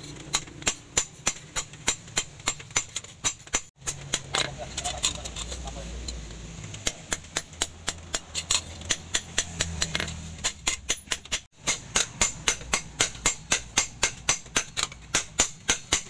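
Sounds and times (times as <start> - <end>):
hammer striking steel on anvil: 0.0 - 4.8, 6.8 - 16.0.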